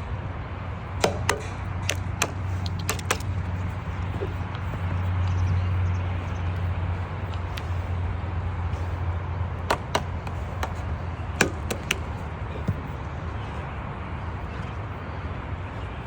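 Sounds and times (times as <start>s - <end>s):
horse hooves striking ground: 0.6s - 16.0s.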